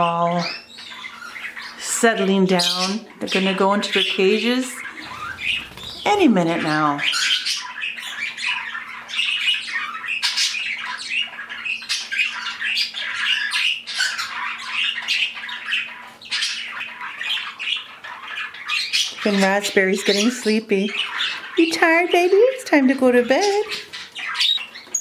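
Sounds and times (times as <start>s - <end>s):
budgies chattering and squawking: 0.0s - 25.0s.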